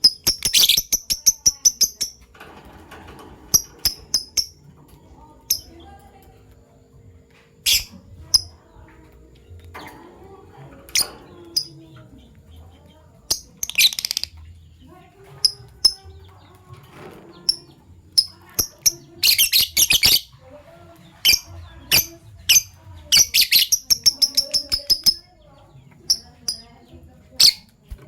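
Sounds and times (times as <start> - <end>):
lovebirds chirping: 0.0 - 2.4, 3.0 - 28.0
lovebirds rapid chattering: 0.0 - 28.0.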